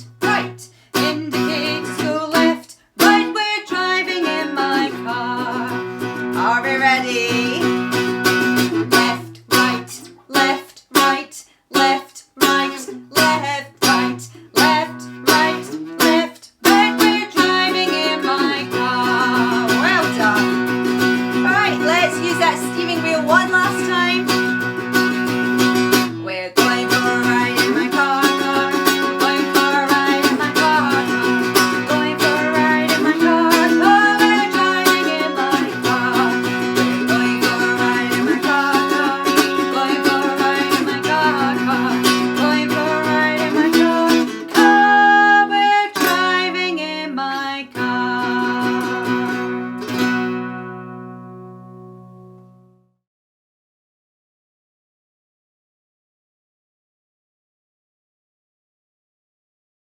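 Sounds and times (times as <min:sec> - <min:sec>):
strummed acoustic string chords: 0:00.0 - 0:11.2, 0:11.8 - 0:52.8.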